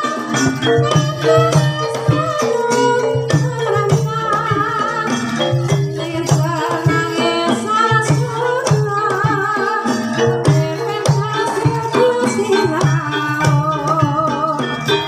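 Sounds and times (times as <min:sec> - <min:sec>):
gamelan ensemble with drums: 0:00.0 - 0:15.0
person singing: 0:00.0 - 0:15.0.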